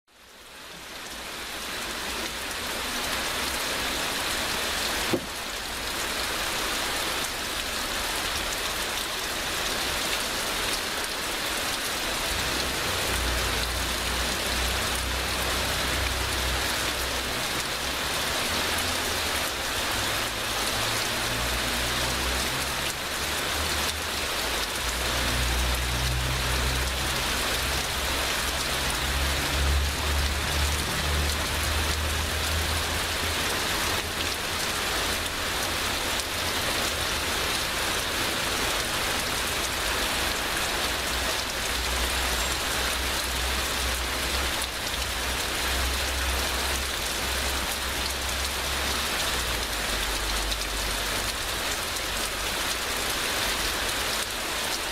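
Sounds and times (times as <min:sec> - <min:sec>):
heavy rain: 0:00.1 - 0:54.9.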